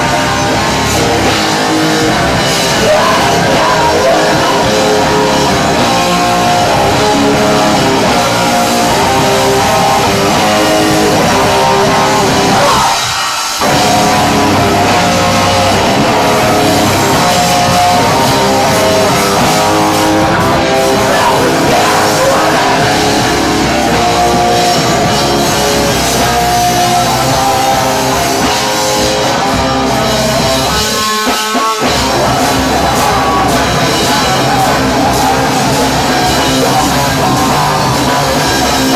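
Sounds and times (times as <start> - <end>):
distorted electric guitar: 0.0 - 38.9
drum kit: 0.0 - 38.9
live heavy metal band: 0.0 - 38.9
person singing: 0.0 - 38.9.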